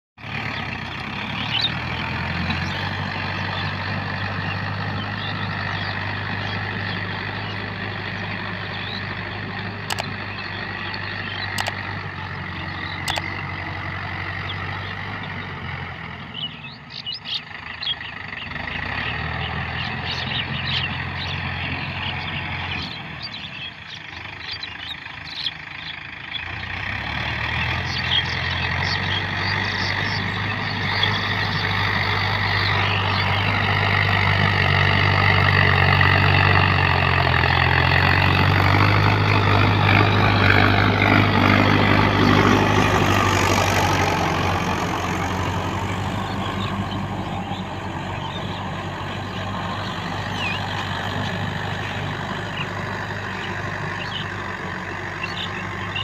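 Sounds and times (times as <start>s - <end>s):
birds chirping: 0.2s - 56.0s
tractor diesel engine running: 0.2s - 56.0s.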